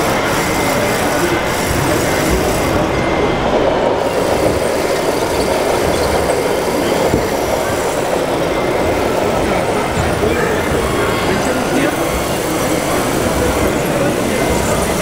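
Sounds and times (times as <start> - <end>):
hubbub of a busy hall: 0.0 - 15.0
model construction machines rumbling: 0.0 - 15.0.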